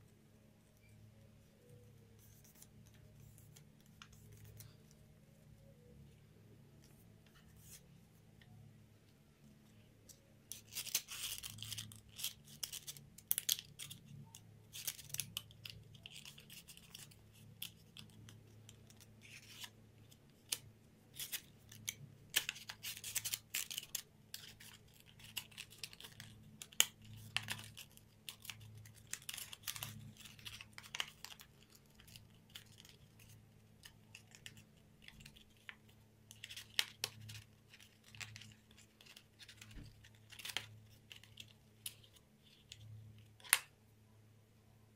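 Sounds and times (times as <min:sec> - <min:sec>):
faint low hum: 0:00.0 - 0:44.9.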